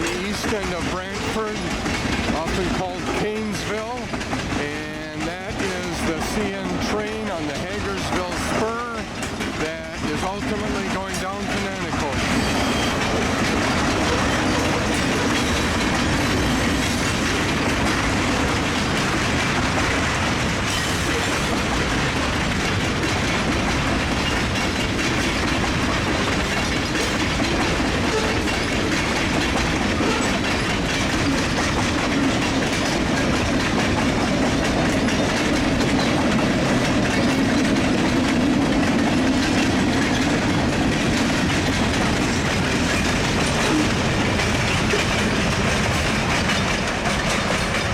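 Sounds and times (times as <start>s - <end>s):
freight train wheels on track: 0.0s - 47.9s.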